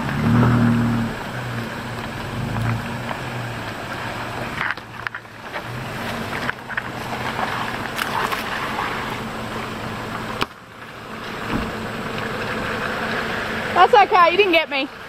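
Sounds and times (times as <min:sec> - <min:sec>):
vehicle engine at low revs: 0:00.0 - 0:15.0.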